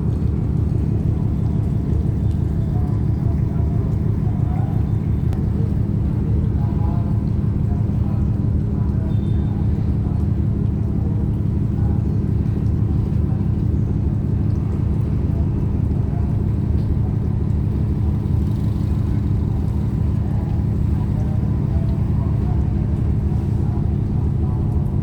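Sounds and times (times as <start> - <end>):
ship diesel engines rumbling: 0.0 - 25.0.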